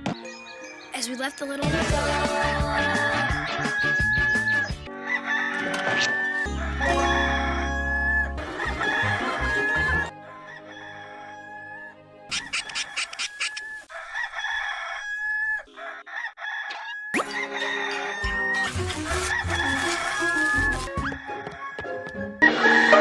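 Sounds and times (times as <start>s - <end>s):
music: 0.0s - 12.8s, 17.2s - 23.0s
rooster crowing: 2.4s - 23.0s.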